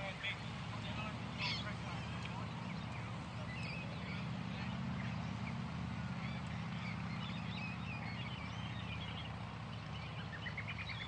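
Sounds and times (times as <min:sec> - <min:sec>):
birds chirping and calling: 0:00.0 - 0:11.0
low background rumble: 0:00.0 - 0:11.0.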